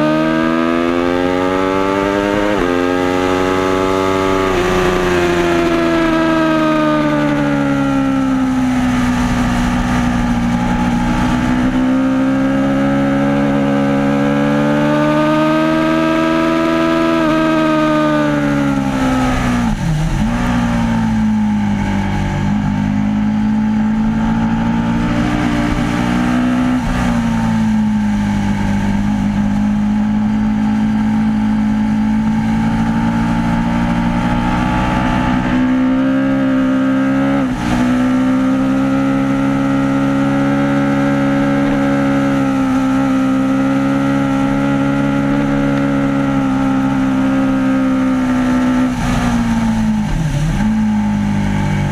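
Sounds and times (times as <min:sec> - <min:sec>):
motorcycle engine running loud: 0:00.0 - 0:51.9.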